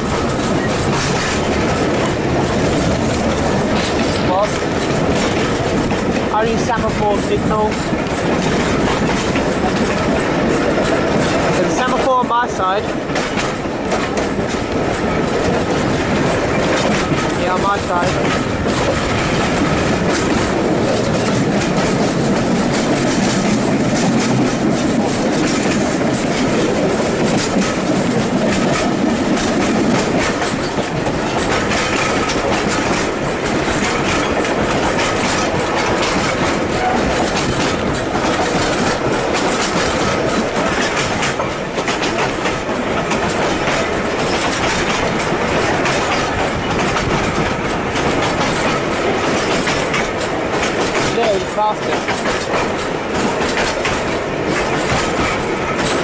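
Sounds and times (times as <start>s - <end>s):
train carriages rumbling: 0.0s - 56.0s
wheels clacking over rail joints: 0.0s - 56.0s.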